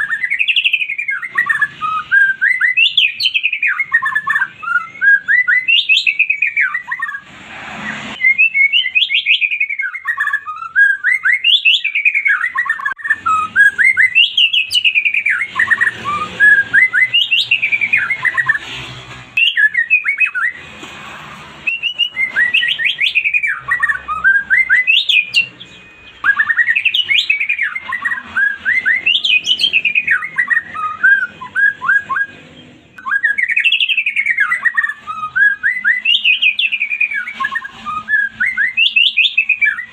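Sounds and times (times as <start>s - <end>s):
songbird whistling phrases: 0.0s - 7.2s, 7.9s - 18.6s, 19.4s - 20.6s, 21.6s - 39.9s.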